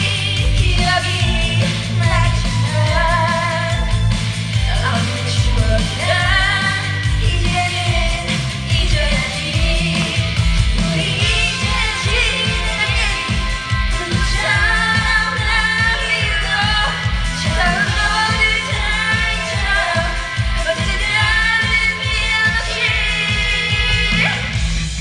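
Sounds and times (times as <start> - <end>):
woman singing: 0.0 - 24.6
backing music with heavy bass beat: 0.0 - 25.0.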